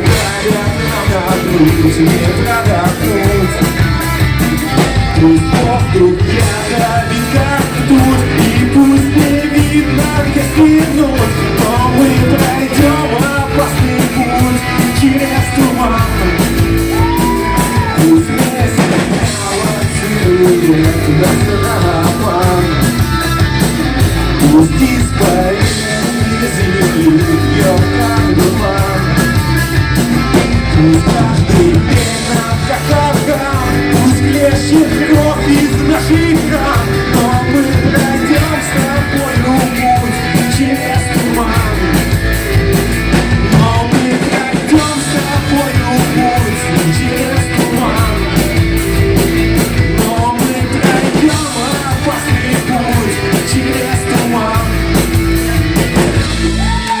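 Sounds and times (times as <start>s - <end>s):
live rock band playing: 0.0s - 57.0s
person singing: 0.0s - 57.0s.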